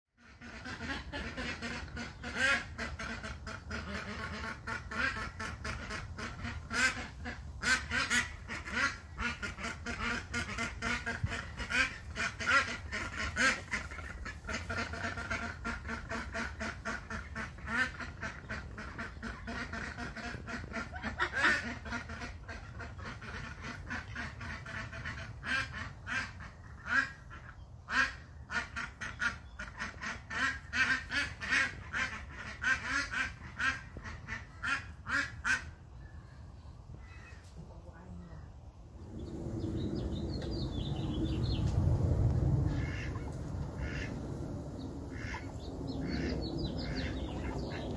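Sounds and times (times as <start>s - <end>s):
ducks quacking: 0.2s - 35.8s, 42.5s - 47.9s.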